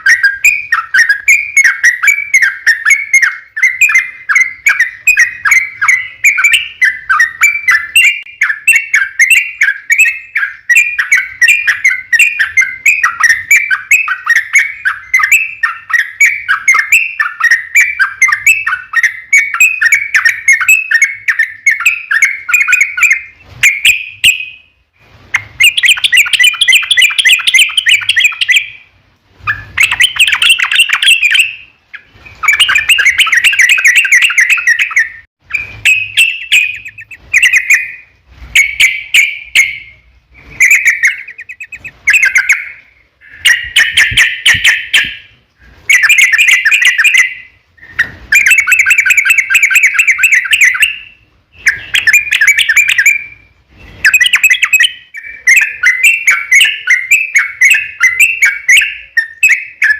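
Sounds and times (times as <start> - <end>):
bulbul singing bubbly song: 0.0 - 53.4.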